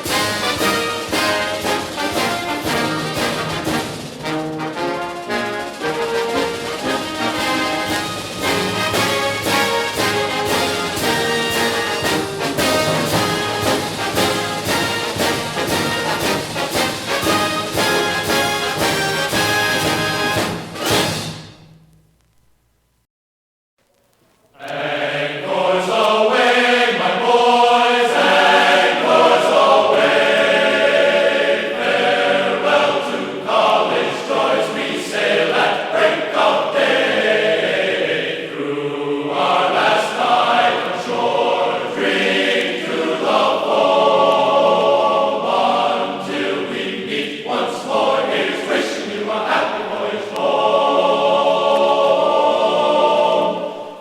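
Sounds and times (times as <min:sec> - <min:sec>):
choir singing: 0:00.0 - 0:21.2, 0:24.6 - 0:54.0.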